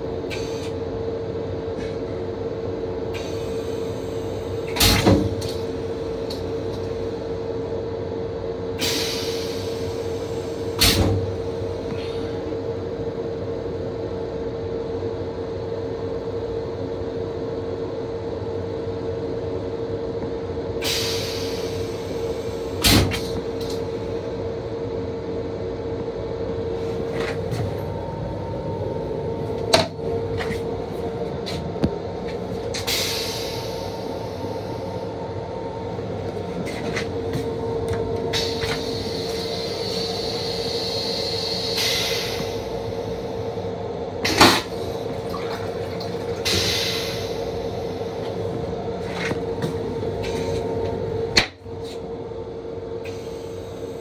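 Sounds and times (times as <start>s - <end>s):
railcar hum and rumble: 0.0s - 54.0s.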